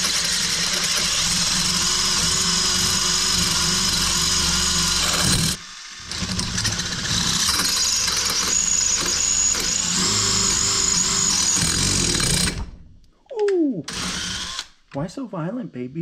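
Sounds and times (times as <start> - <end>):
power drill boring into metal: 0.0 - 12.7, 13.9 - 14.7.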